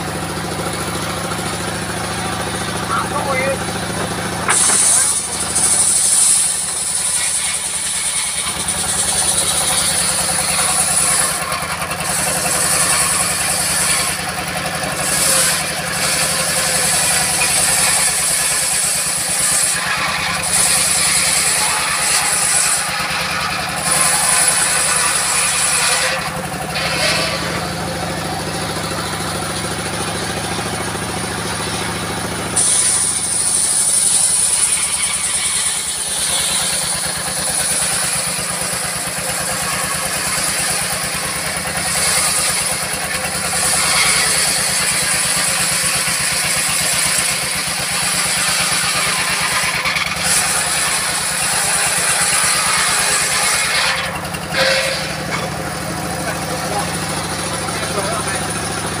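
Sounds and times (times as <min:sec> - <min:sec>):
diesel engine running: 0:00.0 - 0:59.0
saw blade high whine: 0:00.0 - 0:59.0.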